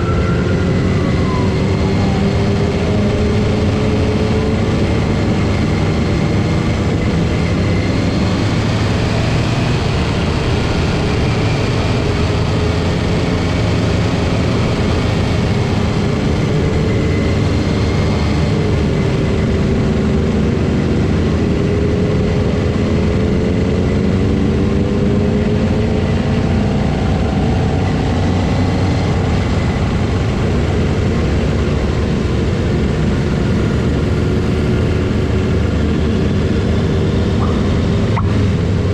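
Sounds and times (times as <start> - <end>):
constant rushing noise: 0.0 - 38.9
motorcycle engines running: 0.0 - 38.9.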